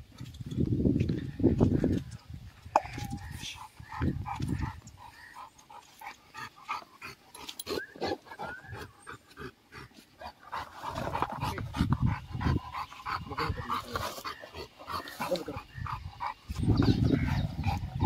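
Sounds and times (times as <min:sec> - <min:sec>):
dogs breathing roughly: 0:03.2 - 0:18.0.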